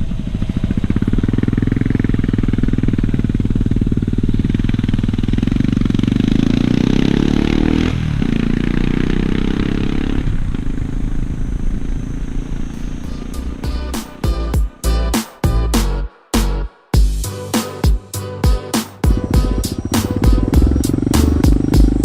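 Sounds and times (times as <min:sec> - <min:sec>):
motorcycle engine revving: 0:00.0 - 0:16.1, 0:17.0 - 0:22.0.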